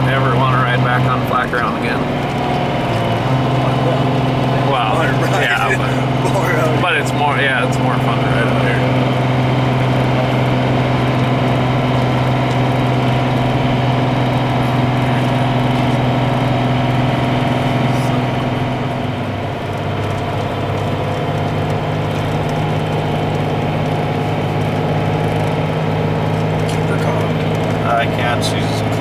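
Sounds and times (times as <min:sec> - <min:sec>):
road noise: 0:00.0 - 0:29.0
vehicle engine running: 0:00.0 - 0:29.0.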